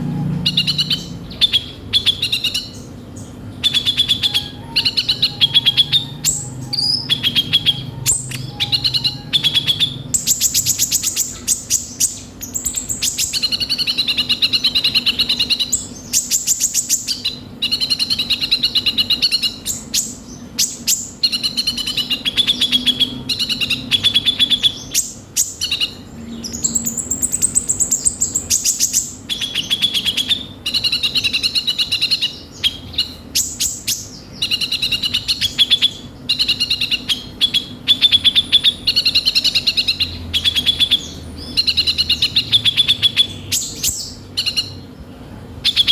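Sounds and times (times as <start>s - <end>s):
sunbird singing chattering song: 0.0s - 45.9s.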